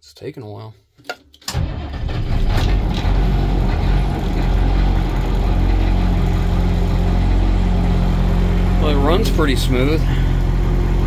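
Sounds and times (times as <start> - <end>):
diesel engine running: 1.6 - 11.0.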